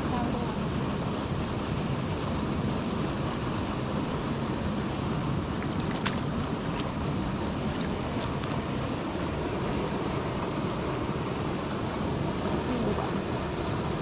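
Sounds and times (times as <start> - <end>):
water rushing from pipe into pond: 0.0 - 14.0.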